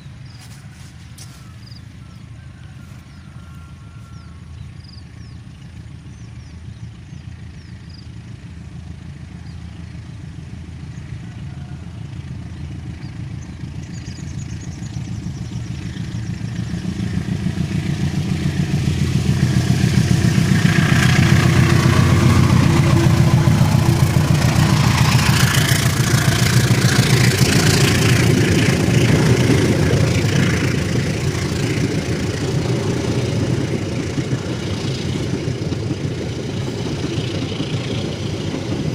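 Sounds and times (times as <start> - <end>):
diesel engine throbbing: 0.0 - 38.9
train wheels rattling on rails: 0.0 - 38.9.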